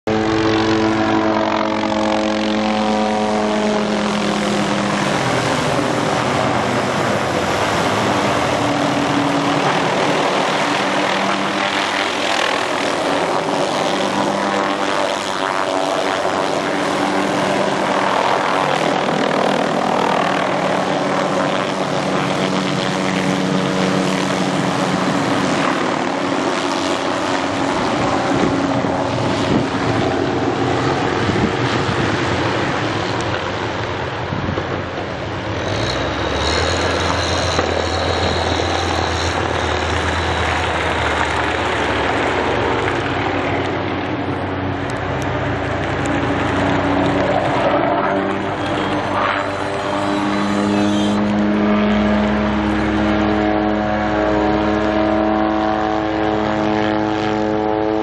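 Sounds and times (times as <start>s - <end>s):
helicopter rotor and turbine: 0.0s - 58.0s.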